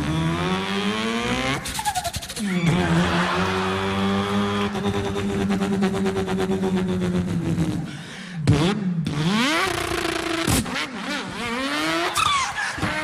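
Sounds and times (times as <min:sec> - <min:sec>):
man imitating car engine: 0:00.0 - 0:10.5.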